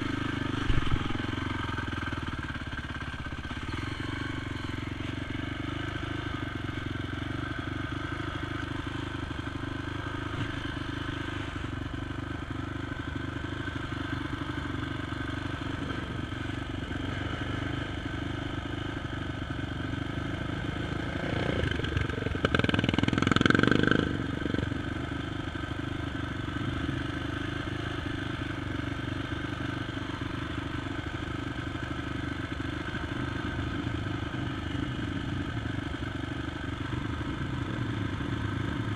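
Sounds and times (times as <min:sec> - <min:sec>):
quad engine running at low revs: 0:00.0 - 0:38.9.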